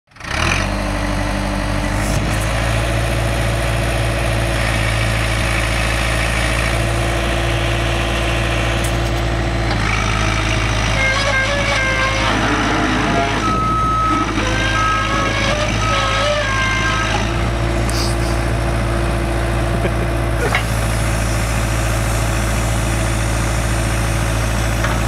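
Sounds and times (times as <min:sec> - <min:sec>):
diesel engine idling: 0:00.1 - 0:25.0.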